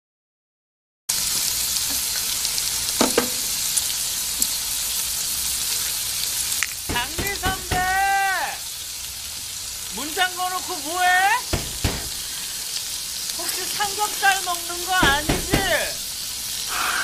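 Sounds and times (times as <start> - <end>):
meat sizzling in a frying pan: 1.1 - 17.0.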